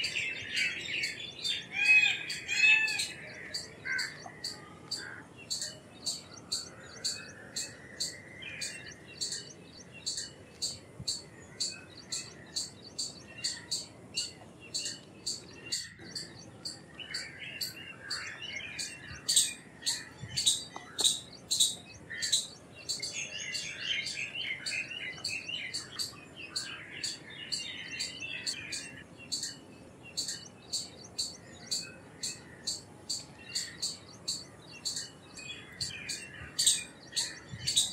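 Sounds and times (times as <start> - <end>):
squirrel twittering chatter: 0.0 - 37.9
squirrel chirping: 1.0 - 16.8, 17.5 - 37.9.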